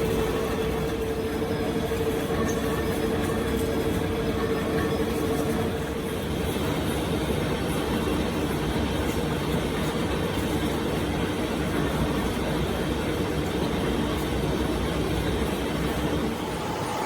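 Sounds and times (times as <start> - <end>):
machinery mechanical drone: 0.0 - 17.0.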